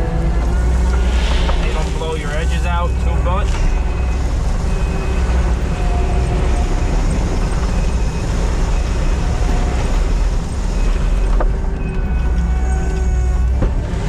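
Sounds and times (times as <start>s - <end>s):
faint whines: 0.0s - 13.8s
dozer diesel engine rumbling: 0.0s - 14.0s.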